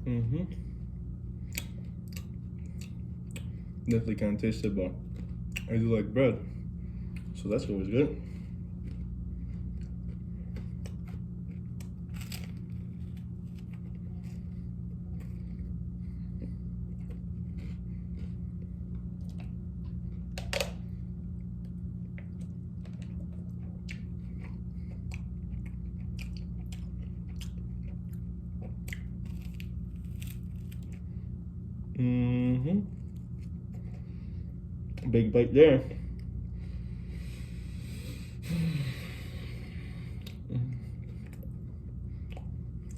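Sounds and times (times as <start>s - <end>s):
steady low hum: 0.0s - 42.9s
person chewing crunchy bread: 0.1s - 35.2s, 36.1s - 42.9s.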